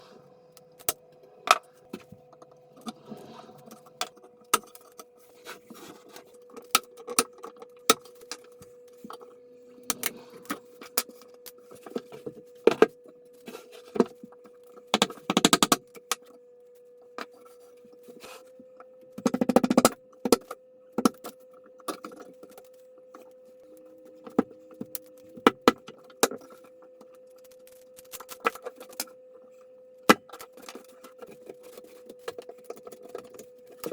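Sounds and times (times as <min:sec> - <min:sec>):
faint steady hum: 0:00.0 - 0:33.9.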